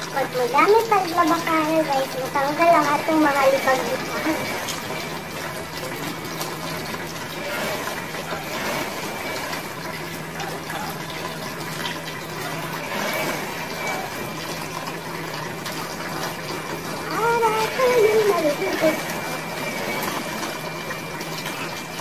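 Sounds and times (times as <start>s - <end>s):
water running: 0.0s - 22.0s.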